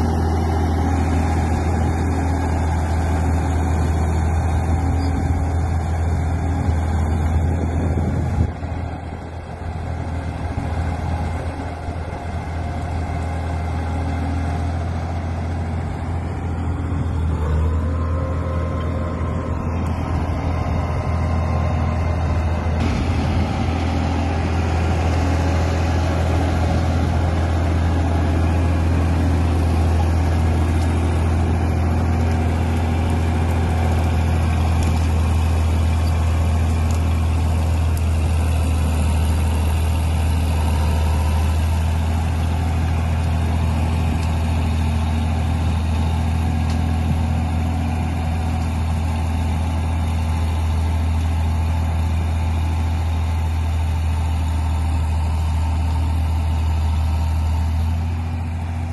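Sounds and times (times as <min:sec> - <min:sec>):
bulldozer blade pushing soil: 0:00.0 - 0:58.9
diesel engine running: 0:00.0 - 0:58.9.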